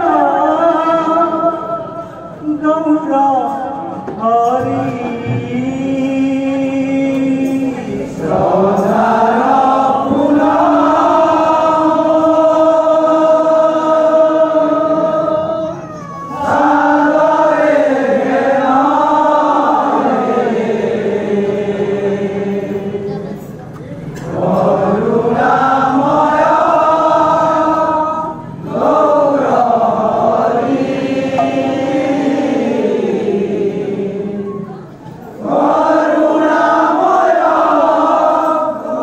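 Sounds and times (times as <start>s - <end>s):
men chanting together: 4.5s - 15.6s, 16.4s - 23.0s, 24.2s - 34.5s, 35.4s - 39.0s.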